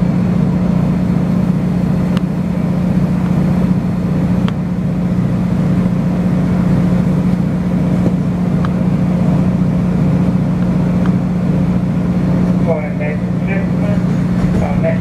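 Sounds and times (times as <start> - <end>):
train engine droning: 0.0 - 15.0
wheels rumbling on rail: 0.0 - 15.0.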